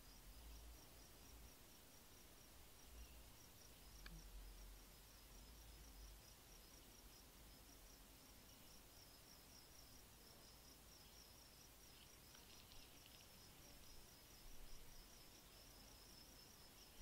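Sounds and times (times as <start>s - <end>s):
faint insect chirping: 0.0s - 17.0s.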